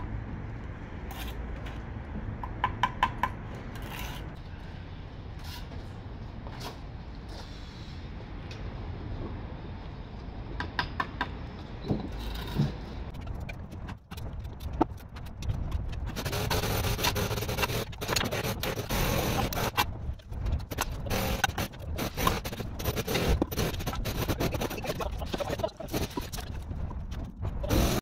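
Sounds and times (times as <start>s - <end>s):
steady rushing background noise: 0.0s - 28.0s.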